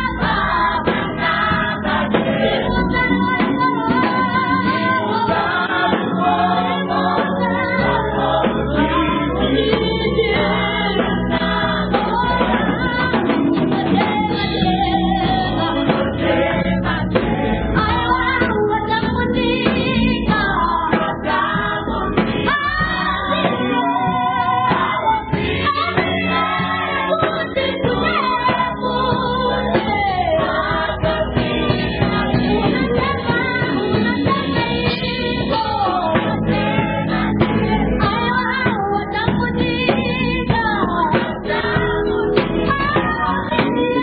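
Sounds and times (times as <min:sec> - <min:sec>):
bass guitar: 0:00.0 - 0:44.0
choir singing gospel: 0:00.0 - 0:44.0
keyboard: 0:00.0 - 0:44.0.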